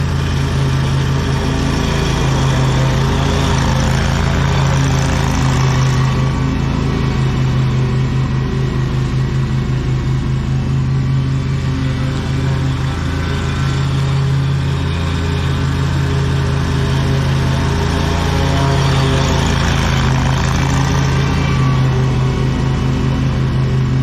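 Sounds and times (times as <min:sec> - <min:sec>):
lawn mower engine mowing: 0:00.0 - 0:24.0.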